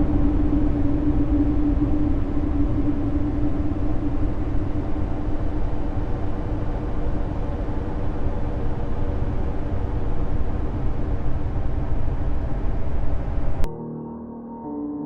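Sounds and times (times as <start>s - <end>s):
deep rumble and hiss: 0.0s - 13.7s
faint steady hum: 0.0s - 13.7s.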